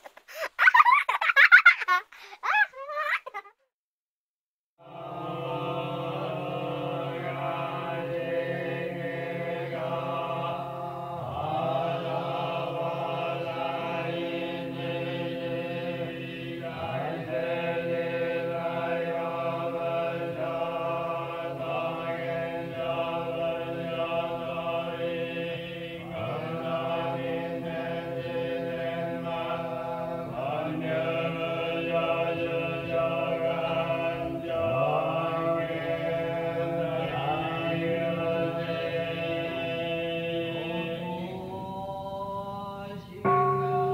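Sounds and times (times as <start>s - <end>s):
eerie droning pad: 4.8s - 43.9s.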